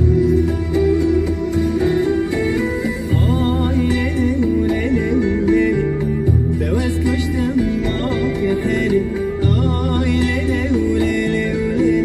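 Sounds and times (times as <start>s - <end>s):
plucked guitar music: 0.0s - 12.0s
steady bass: 0.0s - 12.0s.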